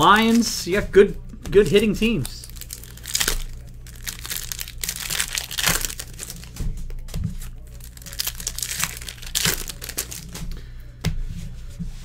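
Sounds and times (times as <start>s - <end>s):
foil wrappers crinkling: 0.0s - 0.6s, 1.6s - 10.6s
low electrical hum: 0.0s - 12.0s.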